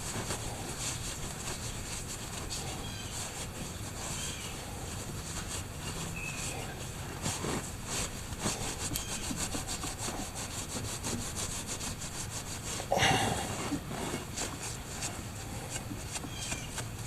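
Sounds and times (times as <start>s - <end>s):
rag scrubbing metal: 0.0s - 17.0s.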